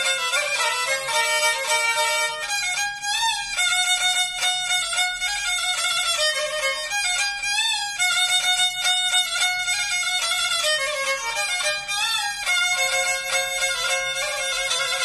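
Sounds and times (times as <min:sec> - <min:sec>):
bowed fiddle folk tune: 0:00.0 - 0:15.0.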